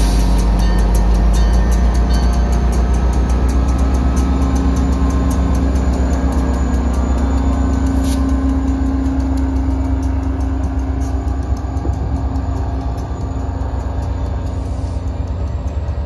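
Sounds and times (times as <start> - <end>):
diesel locomotive engine hum: 0.0 - 16.0
train coaches rolling past: 0.0 - 16.0.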